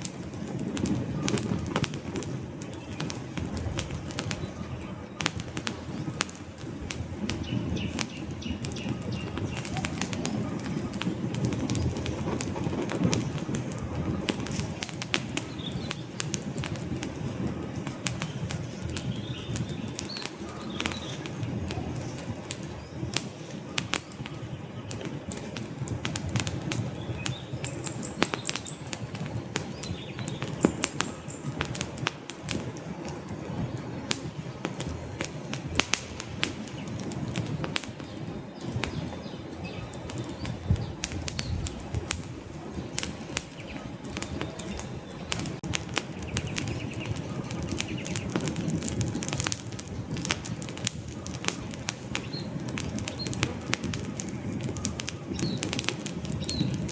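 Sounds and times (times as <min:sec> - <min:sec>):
logs crackling and popping: 0:00.0 - 0:56.9
low rumble of flames: 0:00.0 - 0:56.9.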